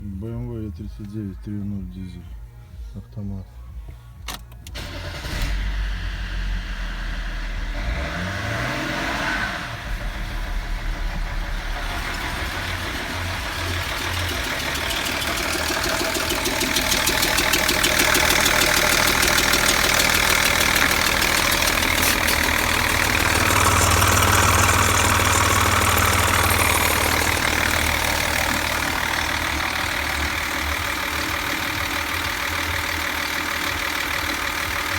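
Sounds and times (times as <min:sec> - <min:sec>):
diesel engine clattering: 0:03.8 - 0:34.9
diesel engine starting: 0:04.1 - 0:34.9.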